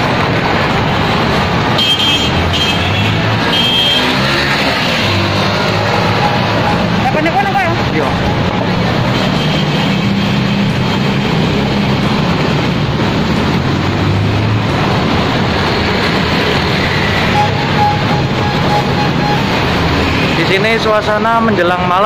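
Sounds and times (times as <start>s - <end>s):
car engines passing: 0.0s - 22.0s
motorbike engines passing: 0.0s - 22.0s.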